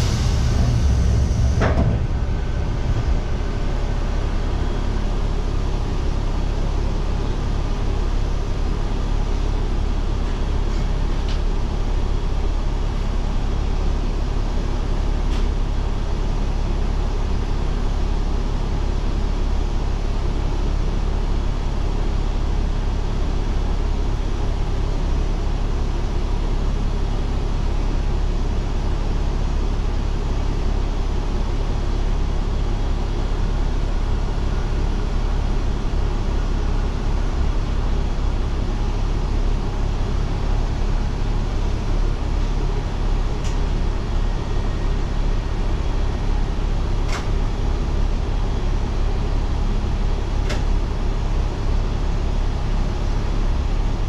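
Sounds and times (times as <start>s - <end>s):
railcar low rumble: 0.0s - 54.0s.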